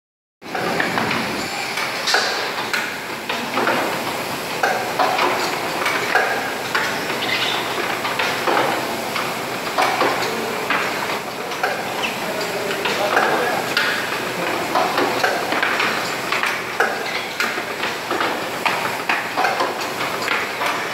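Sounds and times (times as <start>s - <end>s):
machine clacks and knocks: 0.4s - 20.9s
steady machine noise: 0.4s - 20.9s.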